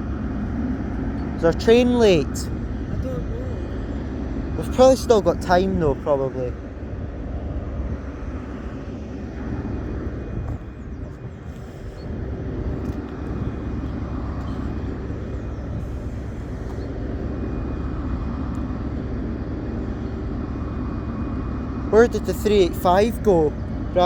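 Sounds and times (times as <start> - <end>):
faint steady tones: 0.0 - 24.0
train engines rumbling: 0.0 - 24.0.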